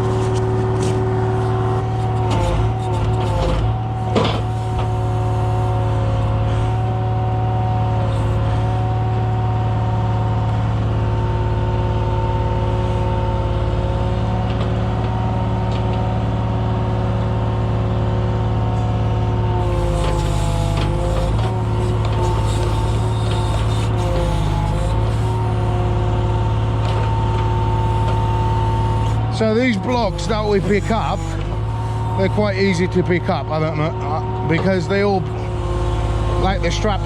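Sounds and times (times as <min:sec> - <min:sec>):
hydraulic whine: 0:00.0 - 0:16.3, 0:18.7 - 0:37.0
diesel engine running: 0:00.0 - 0:37.0.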